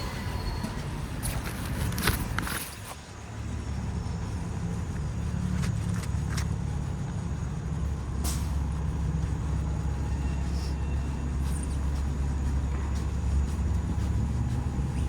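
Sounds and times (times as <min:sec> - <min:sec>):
street traffic rumbling: 0:00.0 - 0:15.0.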